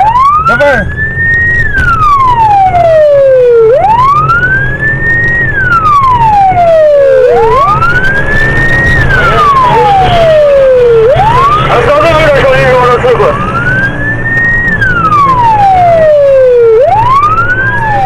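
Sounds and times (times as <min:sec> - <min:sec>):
car engine drone: 0:00.0 - 0:18.0
police siren wailing: 0:00.0 - 0:18.0
road noise: 0:00.0 - 0:18.0.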